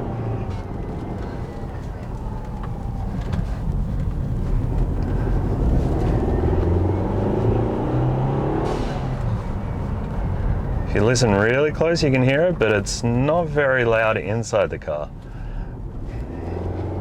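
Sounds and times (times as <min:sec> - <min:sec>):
turbocharged engine accelerating: 0:00.0 - 0:13.3, 0:15.7 - 0:17.0.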